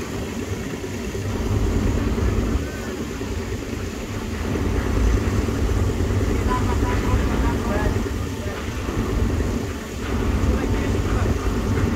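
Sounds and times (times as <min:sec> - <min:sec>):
heavy machinery rumble: 0:00.0 - 0:11.9.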